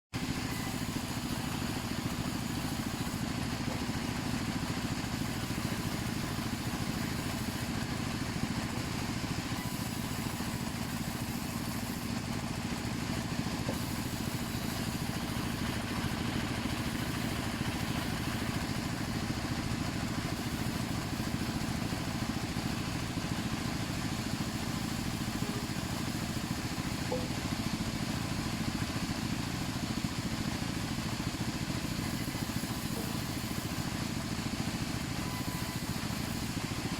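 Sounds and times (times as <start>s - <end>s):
cutting machine motor humming: 0.2s - 30.0s, 31.7s - 36.9s.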